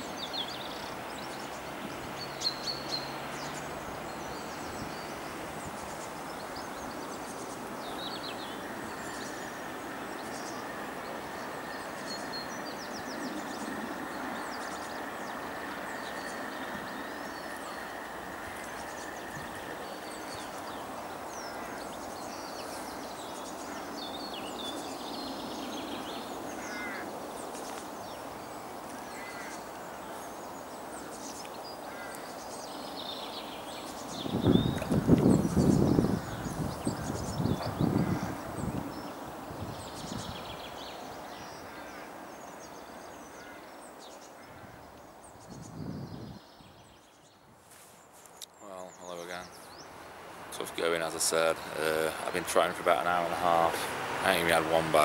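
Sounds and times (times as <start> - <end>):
bird calls and chirps: 0.0 - 50.0.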